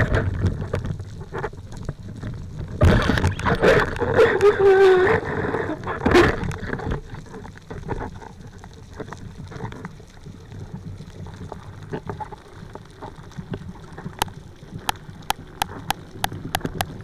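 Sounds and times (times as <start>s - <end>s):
low steady underwater hiss: 0.0s - 17.0s
small clicks and crackles: 0.0s - 17.0s.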